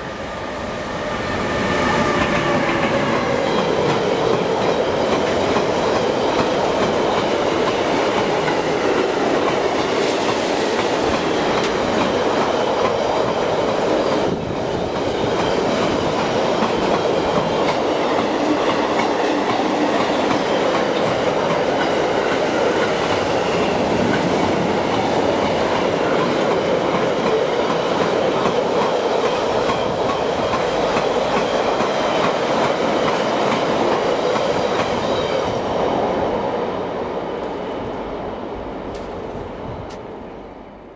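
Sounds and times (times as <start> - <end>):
freight train wheels rumbling: 0.0 - 40.5.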